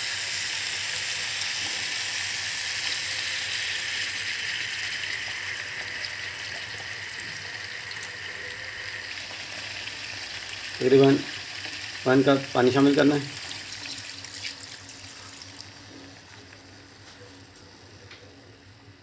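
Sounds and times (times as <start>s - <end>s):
cooking oil pouring: 0.0s - 16.6s
chicken sizzling in hot oil: 0.0s - 16.9s.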